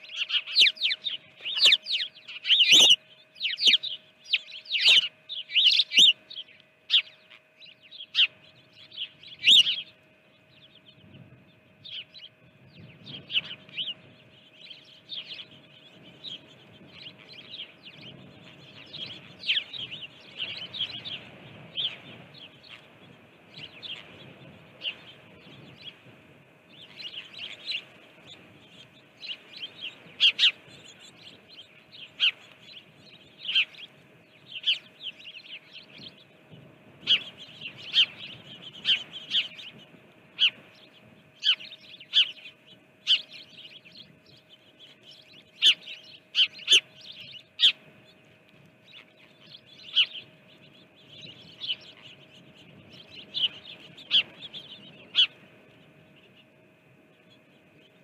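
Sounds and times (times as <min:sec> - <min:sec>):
faint steady hum: 0:00.0 - 0:58.0
small birds chirping: 0:00.0 - 0:58.0.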